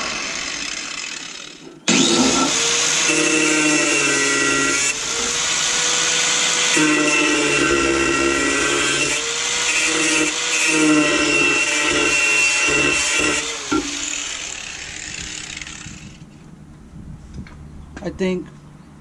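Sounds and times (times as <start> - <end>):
electric grinder grinding metal: 0.0 - 16.2.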